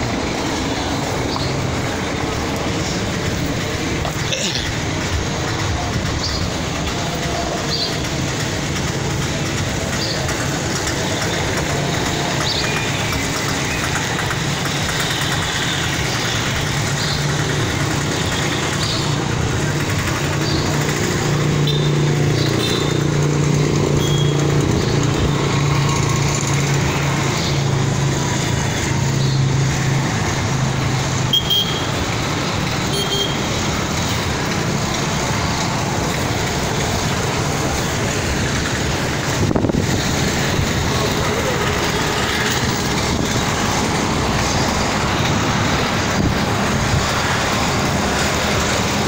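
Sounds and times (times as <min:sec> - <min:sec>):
road traffic: 0:00.0 - 0:49.0.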